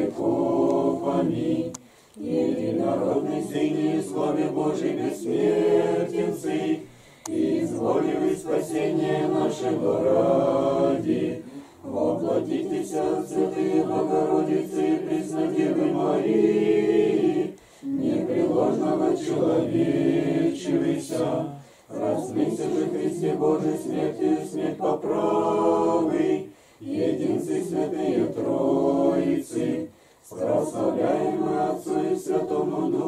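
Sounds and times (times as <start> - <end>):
choir chanting a cappella: 0.0 - 33.0.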